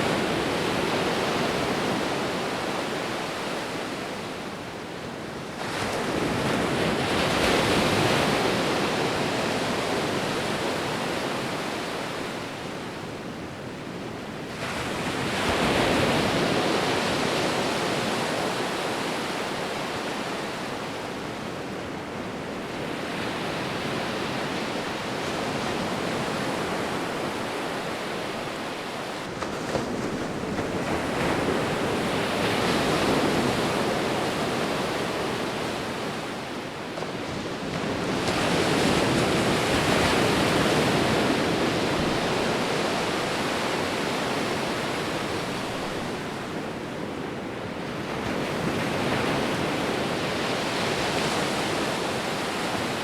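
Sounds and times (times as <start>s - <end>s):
ocean waves breaking on shore: 0.0s - 53.0s.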